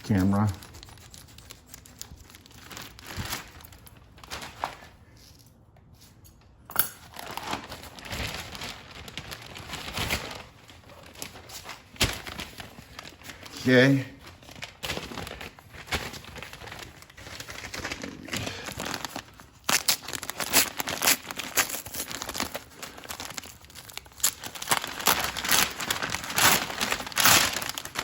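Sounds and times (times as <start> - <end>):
packaging bags crinkling: 0.1 - 5.2, 7.0 - 28.0.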